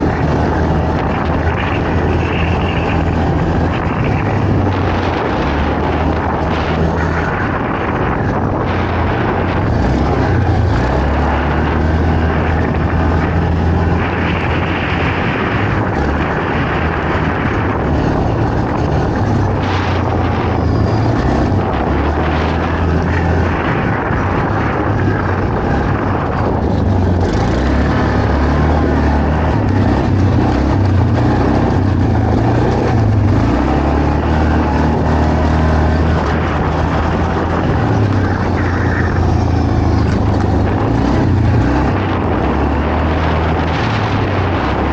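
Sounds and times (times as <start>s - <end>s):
quad bike engine revving: 0.0s - 44.9s
terrain noise: 0.0s - 44.9s
wind rushing: 0.0s - 44.9s.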